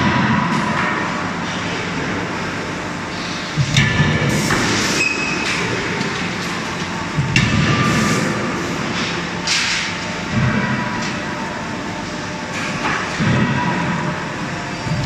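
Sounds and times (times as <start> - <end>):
forge machinery noise: 0.0 - 15.0.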